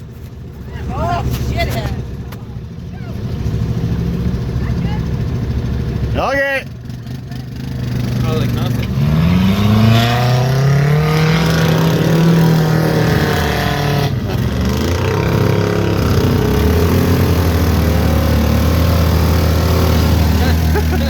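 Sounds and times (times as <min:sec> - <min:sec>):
truck engine running under load: 0:00.0 - 0:21.0.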